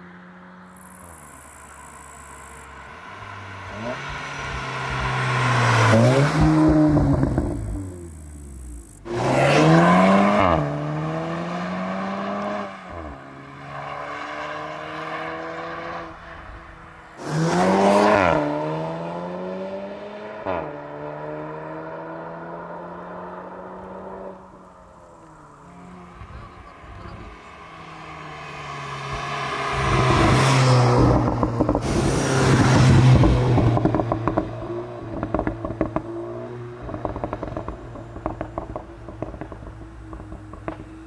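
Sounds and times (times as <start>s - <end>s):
car accelerating hard past: 0.3s - 8.4s, 9.0s - 24.7s, 25.3s - 41.0s.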